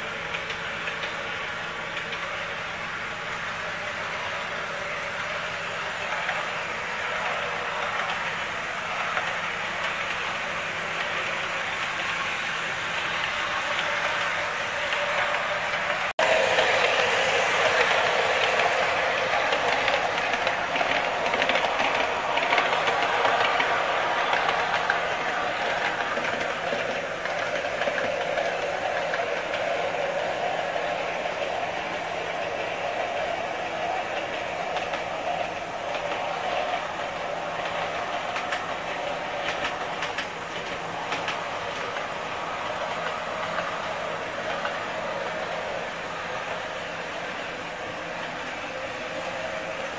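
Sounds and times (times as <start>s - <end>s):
model railcar rolling rattle: 0.0s - 49.9s
rail joint clicks: 0.2s - 49.9s.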